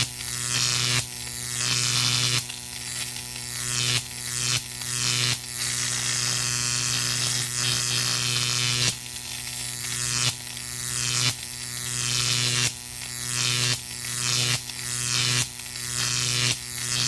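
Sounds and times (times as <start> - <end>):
electric hissing crackle: 0.0 - 17.0
electric hum: 0.0 - 17.0.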